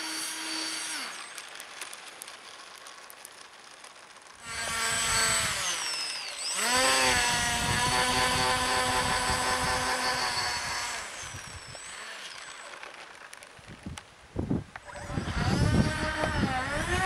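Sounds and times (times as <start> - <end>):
model airplane motor whining: 0.0 - 13.8, 14.7 - 17.0.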